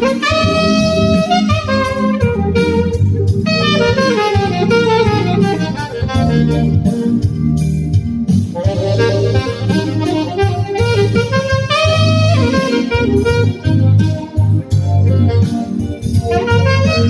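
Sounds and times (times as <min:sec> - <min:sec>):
bass and drums: 0:00.0 - 0:17.0
saxophone-like lead melody: 0:00.0 - 0:17.0.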